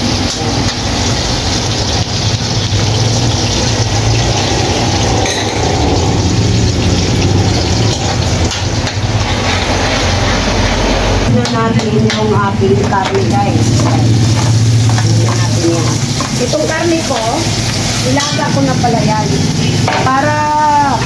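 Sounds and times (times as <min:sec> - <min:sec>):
garlic and onion sizzling in oil: 0:00.0 - 0:21.0.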